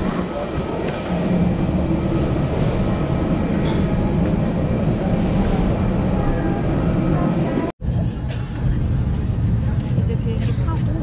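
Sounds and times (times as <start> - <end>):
machinery rumble and hum: 0.0 - 11.0.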